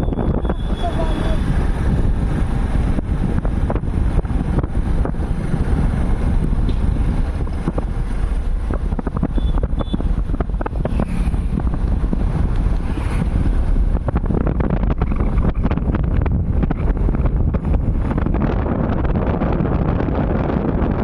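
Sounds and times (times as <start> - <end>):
low vehicle rumble: 0.0 - 21.0
wind buffeting microphone: 0.0 - 21.0.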